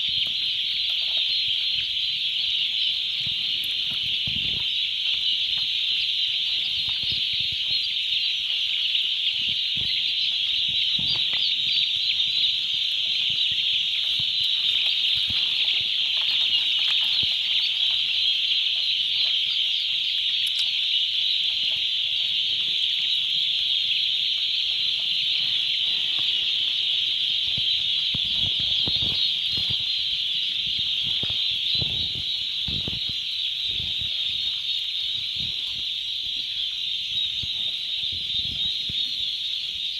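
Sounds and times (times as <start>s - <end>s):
turkey poults peeping: 0.0s - 39.9s.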